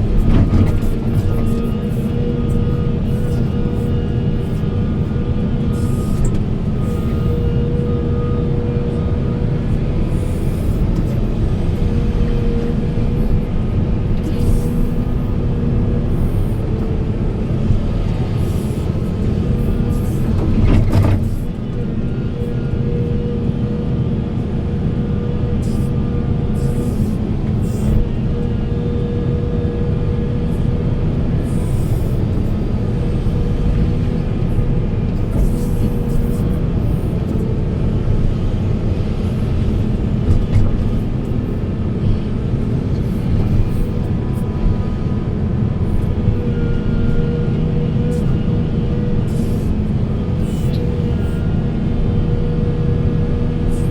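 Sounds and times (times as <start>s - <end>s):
excavator diesel engine: 0.0s - 53.9s
hydraulic whine: 0.0s - 53.9s.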